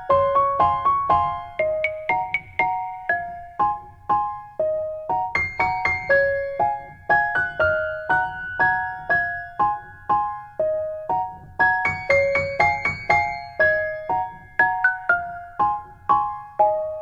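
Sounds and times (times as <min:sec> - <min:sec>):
gentle keyboard melody: 0:00.0 - 0:17.0.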